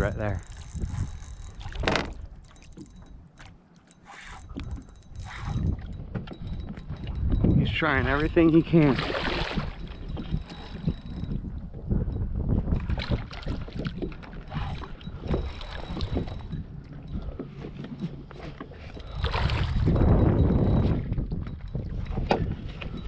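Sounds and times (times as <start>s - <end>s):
wind buffeting the microphone: 0.0s - 3.4s, 4.3s - 23.0s.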